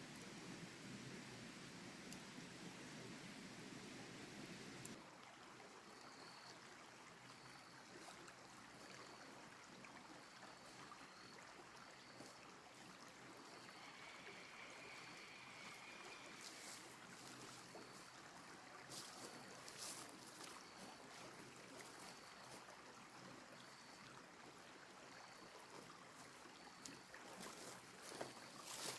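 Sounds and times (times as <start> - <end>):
creek flowing: 0.0 - 28.9.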